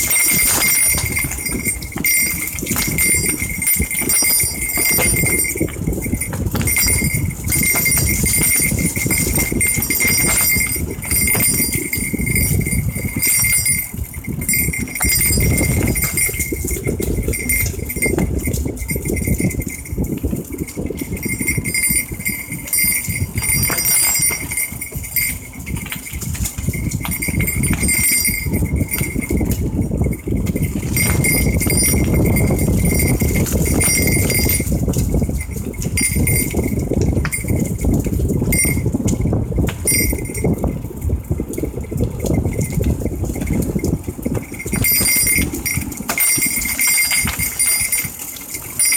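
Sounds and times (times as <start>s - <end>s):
high ringing tone: 0.0s - 40.8s, 42.2s - 48.9s
bike rolling over bumpy trail: 0.0s - 48.9s
small knocks and rattles: 0.0s - 48.9s.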